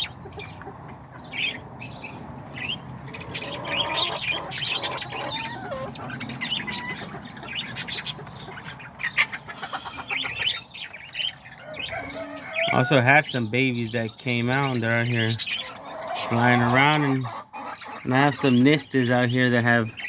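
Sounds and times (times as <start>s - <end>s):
parakeets chirping and squawking: 0.0s - 20.0s.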